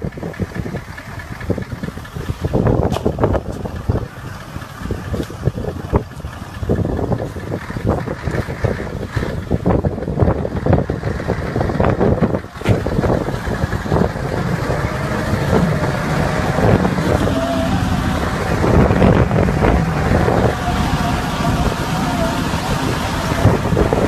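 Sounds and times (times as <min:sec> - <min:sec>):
loud vehicle engine: 0:00.0 - 0:24.0
wind buffeting microphone: 0:00.0 - 0:24.0.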